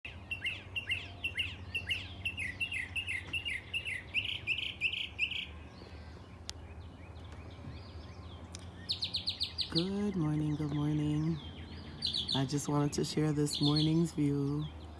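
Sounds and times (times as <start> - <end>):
songbird chirping: 0.0 - 14.9.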